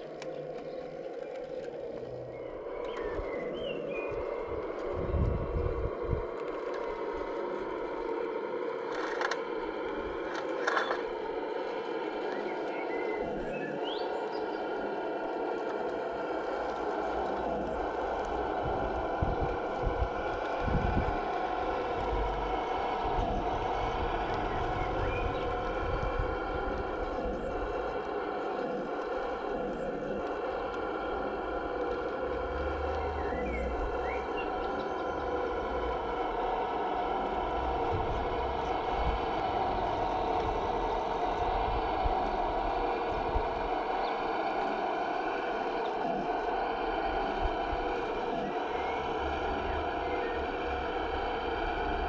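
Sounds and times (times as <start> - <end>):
mechanical whine of model machine: 0.0 - 52.0.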